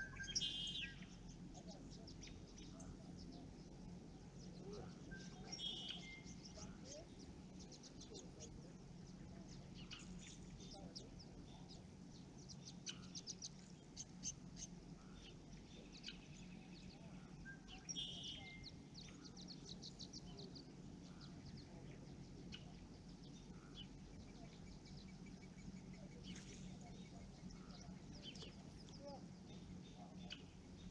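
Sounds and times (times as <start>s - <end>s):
faint low hum: 0.0s - 30.9s
small birds chirping: 0.0s - 30.9s.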